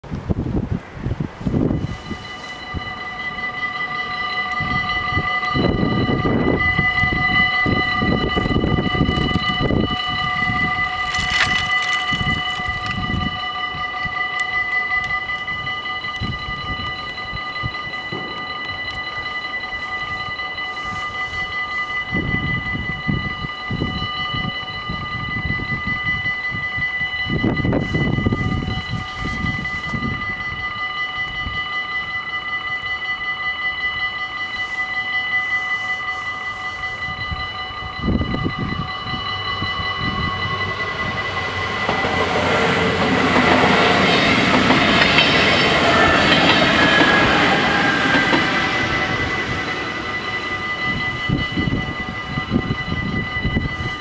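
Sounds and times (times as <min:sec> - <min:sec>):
level crossing bells ringing: 0:01.5 - 0:54.0.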